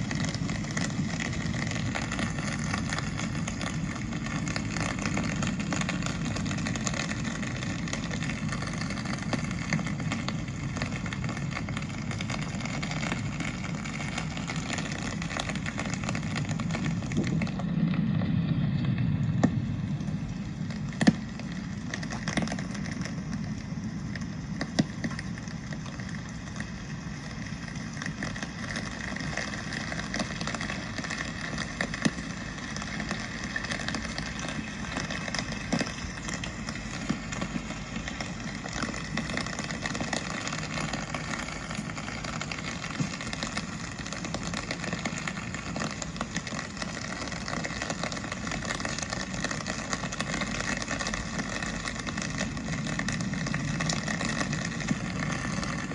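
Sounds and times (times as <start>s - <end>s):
rain falling: 0.0s - 55.9s
street traffic rumble: 0.0s - 55.9s.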